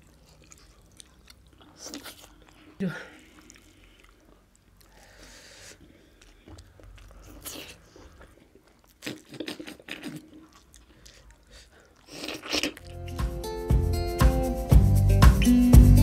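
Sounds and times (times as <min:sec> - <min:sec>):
people chewing and smacking: 0:00.0 - 0:13.2.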